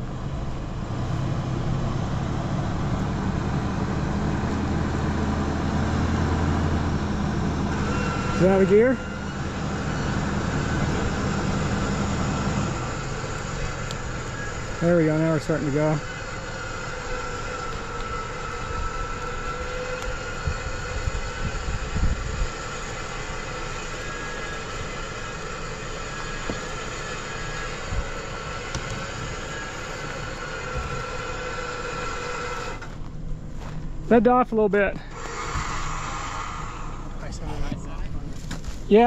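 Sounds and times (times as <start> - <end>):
electric winch whining: 0.0 - 33.8, 35.0 - 39.0.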